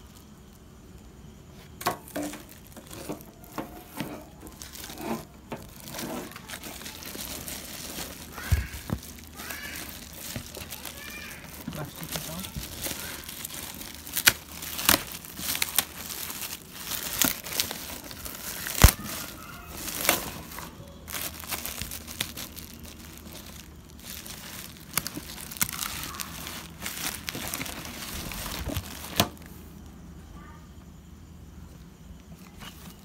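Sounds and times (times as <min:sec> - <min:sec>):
plastic film crinkling and tearing: 0:01.8 - 0:29.5, 0:32.4 - 0:33.0.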